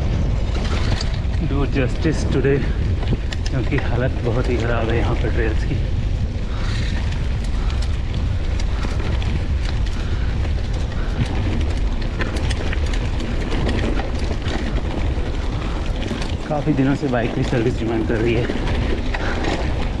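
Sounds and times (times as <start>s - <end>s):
bike clicks and rattles: 0.0s - 20.0s
bike tyre noise: 0.0s - 20.0s
wind rumble on microphone: 0.0s - 20.0s.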